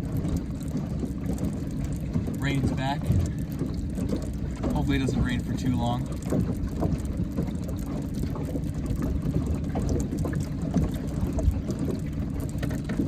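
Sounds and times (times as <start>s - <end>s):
rain drops ticking on a boat: 0.0s - 13.0s
steady low rumble: 0.0s - 13.0s.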